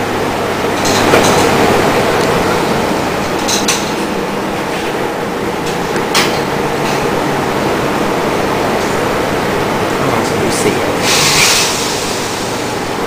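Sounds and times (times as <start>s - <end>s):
lawnmower engine running: 0.0s - 12.0s.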